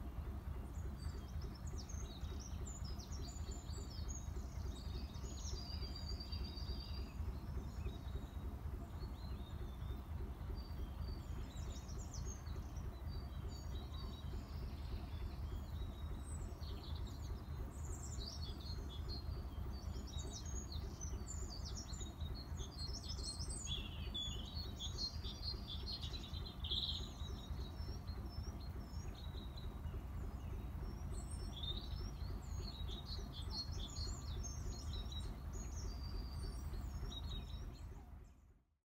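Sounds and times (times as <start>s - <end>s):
small songbirds chirping: 0.0s - 38.8s
low steady rumble: 0.0s - 38.9s.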